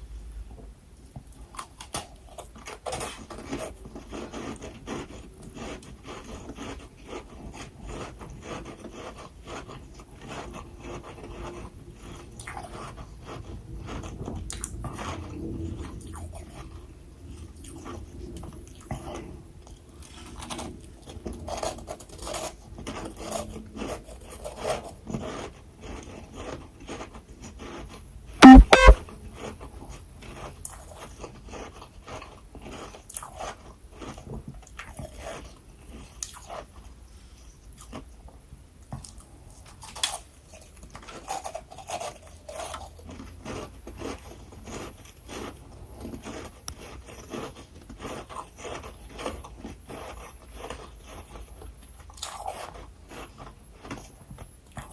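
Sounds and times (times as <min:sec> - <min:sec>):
crunching and chewing ice: 0:01.2 - 0:28.3, 0:29.3 - 0:54.9.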